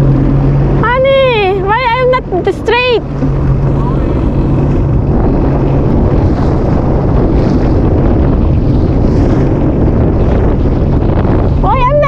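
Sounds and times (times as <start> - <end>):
jet ski engine drone: 0.0 - 12.0
rushing water: 0.0 - 12.0
wind buffeting microphone: 0.0 - 12.0.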